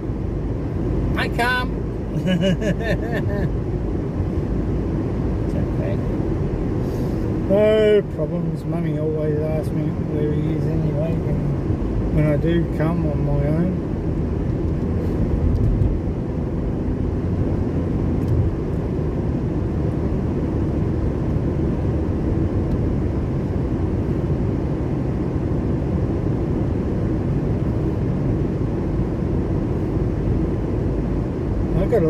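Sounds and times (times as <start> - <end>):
car cabin rumble while driving: 0.0 - 32.0.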